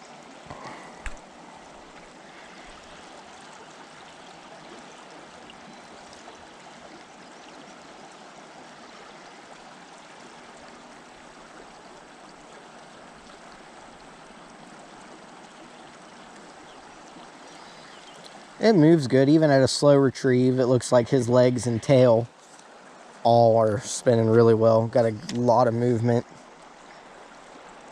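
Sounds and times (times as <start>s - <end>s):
river water flowing: 0.0s - 27.9s.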